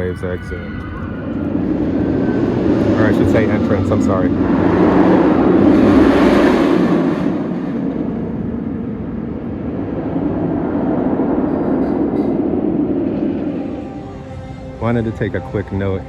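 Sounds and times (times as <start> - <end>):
hissing rush: 0.0 - 14.4
loud rolling rumble: 0.0 - 16.0.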